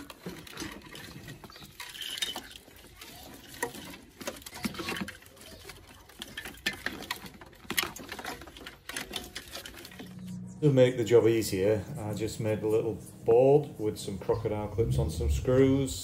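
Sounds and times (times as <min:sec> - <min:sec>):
wiring rustling: 0:00.0 - 0:16.0.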